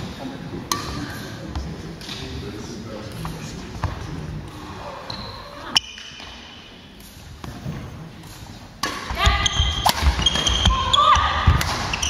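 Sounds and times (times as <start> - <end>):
murmur of voices in hall: 0.0 - 12.0.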